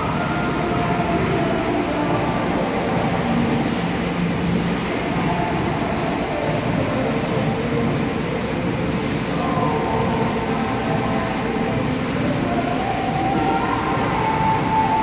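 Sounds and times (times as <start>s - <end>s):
swimming pool hall rumble: 0.0s - 15.0s.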